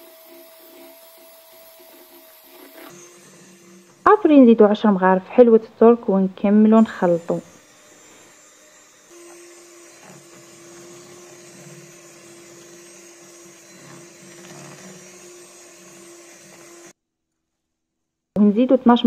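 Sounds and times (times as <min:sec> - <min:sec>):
electric hand mixer whine: 0:00.0 - 0:05.2, 0:06.5 - 0:17.0.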